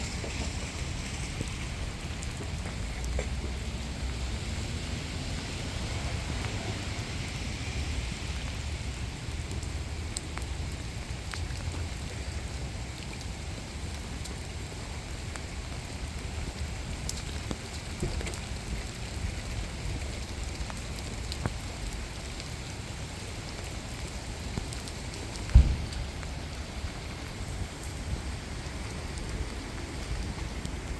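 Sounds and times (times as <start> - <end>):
rain falling: 0.0 - 30.9
sharp ticks of raindrops: 0.0 - 30.9.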